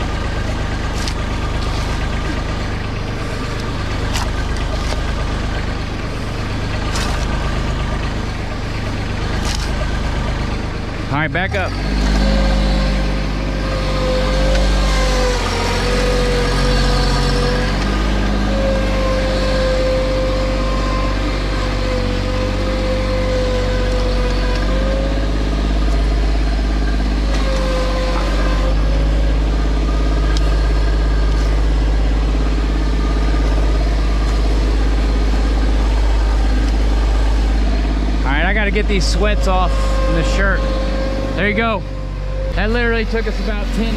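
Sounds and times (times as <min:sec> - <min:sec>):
loader engine running: 0:00.0 - 0:43.9
wavering whine: 0:00.0 - 0:43.9.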